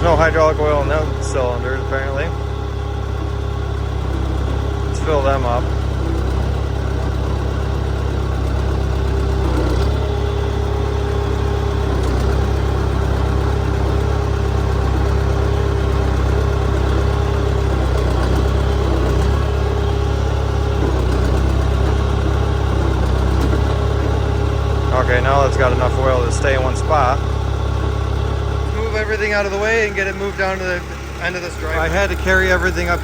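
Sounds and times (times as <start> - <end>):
diesel engine running: 0.0 - 33.0
hydraulic whine: 0.0 - 33.0.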